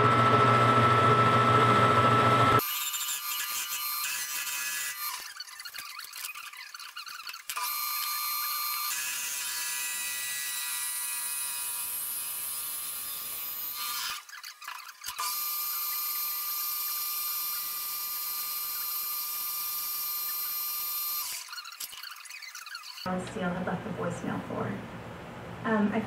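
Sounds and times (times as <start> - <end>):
metal lathe cutting with whine: 0.0 - 23.1.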